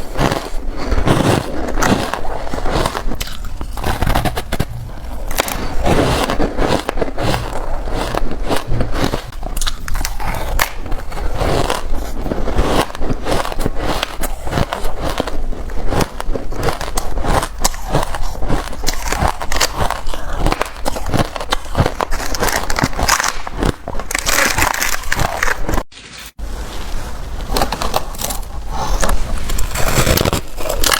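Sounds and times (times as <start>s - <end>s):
chewing crunchy ice: 0.0s - 25.9s, 27.7s - 30.9s.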